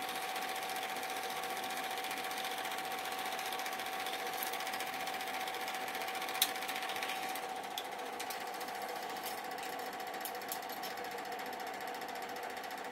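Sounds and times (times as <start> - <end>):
film projector clattering: 0.0 - 12.9.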